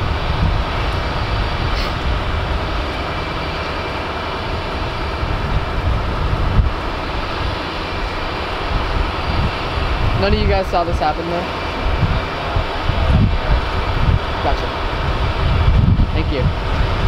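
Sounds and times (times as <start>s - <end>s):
train engine idling: 0.0s - 17.0s
wind rumbling on microphone: 0.0s - 17.0s.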